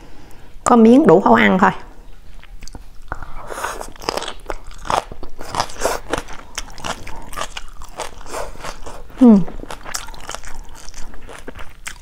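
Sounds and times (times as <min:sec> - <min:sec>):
crunchy chewing close-up: 0:02.3 - 0:12.0.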